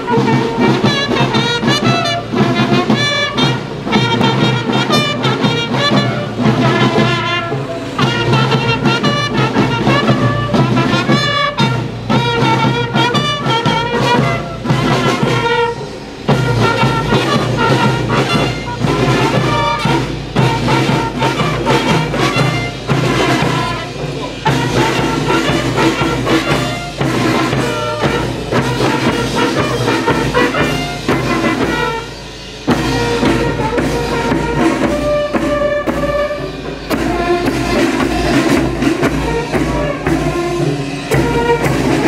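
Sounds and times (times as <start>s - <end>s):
fanfare band playing a march: 0.0s - 42.0s.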